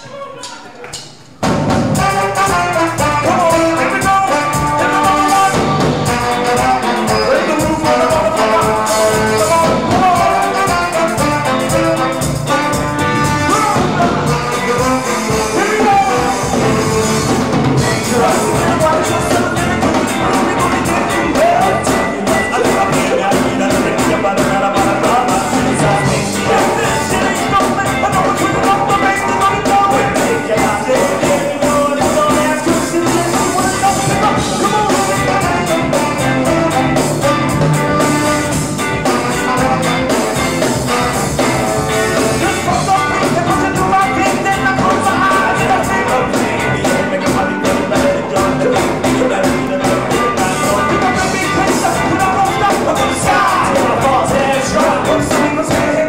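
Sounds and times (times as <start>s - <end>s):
horn section: 0.0s - 56.0s
ska band playing live: 0.0s - 56.0s.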